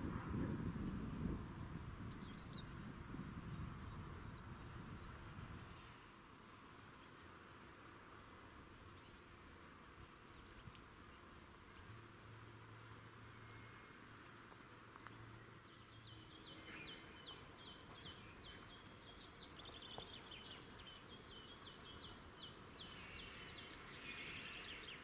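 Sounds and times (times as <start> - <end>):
faint background hiss: 0.0 - 25.0
songbird singing faintly: 0.0 - 25.0.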